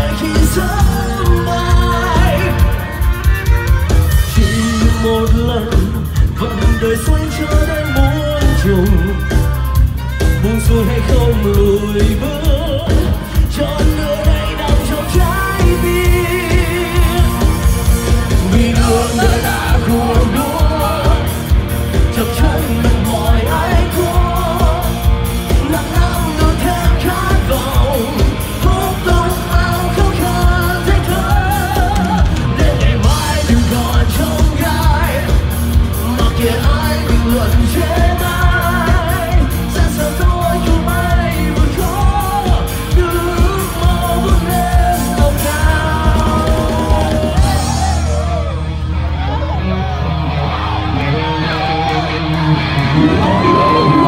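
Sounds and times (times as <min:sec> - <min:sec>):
driving drum beat: 0:00.0 - 0:48.6
person singing: 0:00.0 - 0:54.0
rock band playing live: 0:00.0 - 0:54.0.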